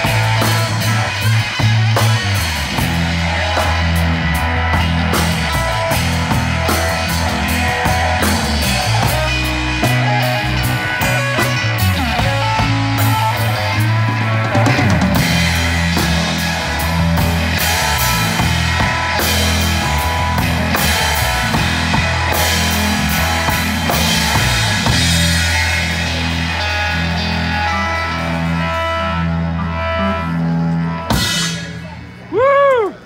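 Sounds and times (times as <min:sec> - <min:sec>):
drum kit cymbal and bass drum: 0:00.0 - 0:26.8
blues band playing live: 0:00.0 - 0:33.0.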